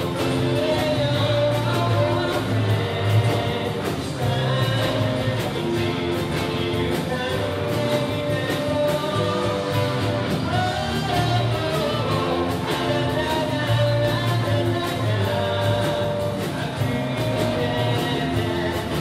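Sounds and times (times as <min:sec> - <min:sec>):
live pop band playing: 0:00.0 - 0:19.0
person singing: 0:00.0 - 0:19.0.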